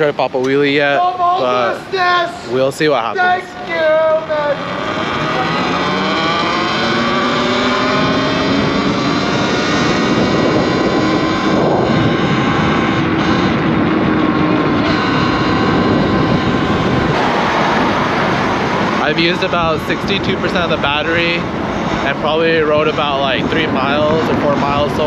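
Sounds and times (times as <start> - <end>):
electric motor whine: 2.6 - 25.0
wind rush on microphone: 4.8 - 25.0.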